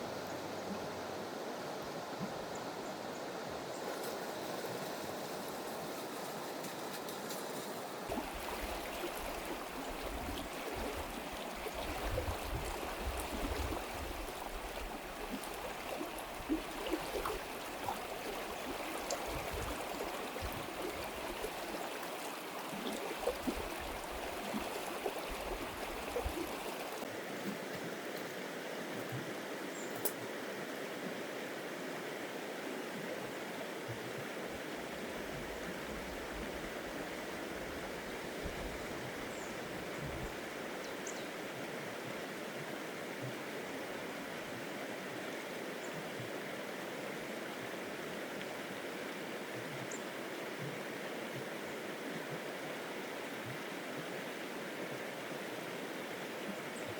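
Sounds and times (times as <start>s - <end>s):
stream water flowing: 0.0s - 56.9s.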